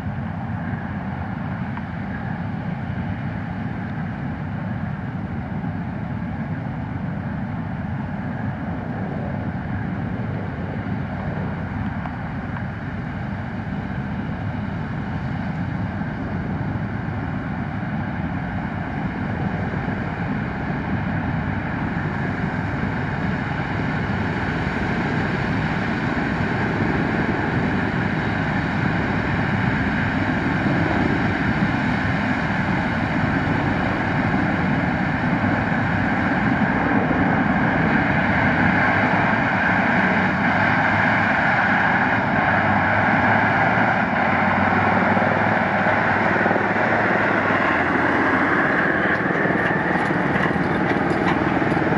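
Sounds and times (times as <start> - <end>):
diesel machinery drone: 0.0 - 51.9.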